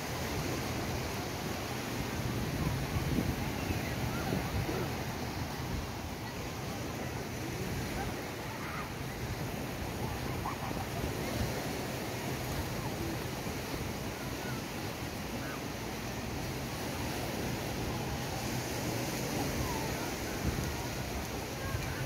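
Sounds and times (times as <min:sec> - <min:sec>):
faint distant voices: 0:00.0 - 0:22.0
surf washing: 0:00.0 - 0:22.0
wind: 0:00.0 - 0:22.0.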